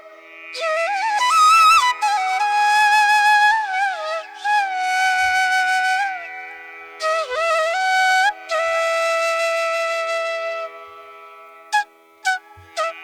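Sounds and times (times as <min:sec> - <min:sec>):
flute melody with bending notes: 0:00.6 - 0:06.3, 0:07.0 - 0:11.1, 0:11.8 - 0:13.0.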